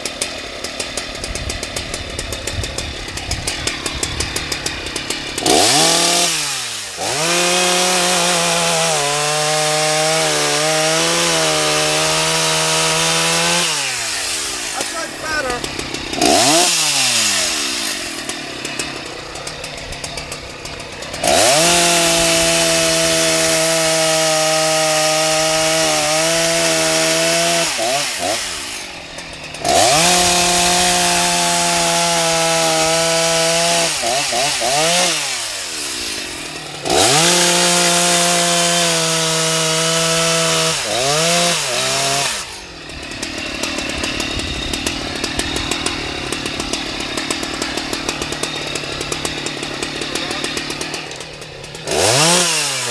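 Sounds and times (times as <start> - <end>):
chainsaw idling and revving: 0.0 - 52.9.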